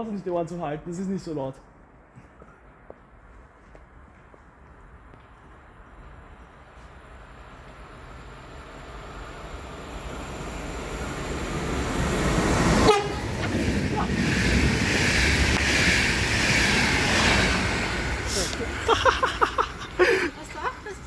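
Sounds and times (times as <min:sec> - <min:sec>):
train wheels on rail: 0:02.0 - 0:21.0.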